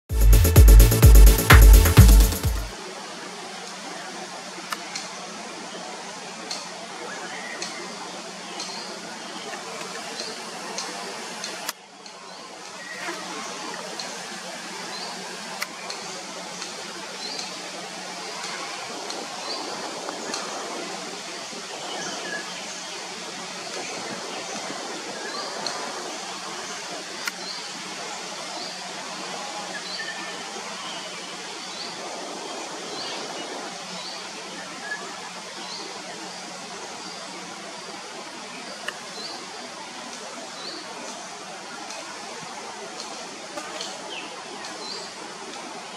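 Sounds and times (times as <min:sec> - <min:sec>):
water flowing over rocks: 0:01.7 - 0:45.9.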